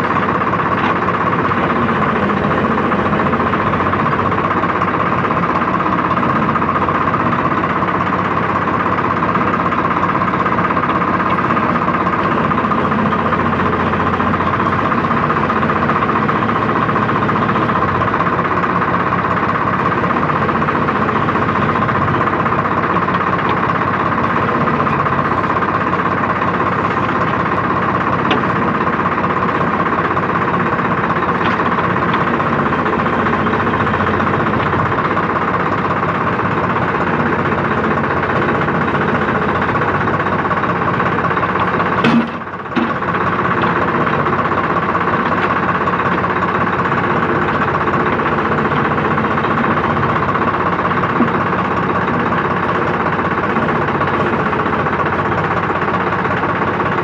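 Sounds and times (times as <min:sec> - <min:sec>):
backhoe engine running: 0:00.0 - 0:57.0.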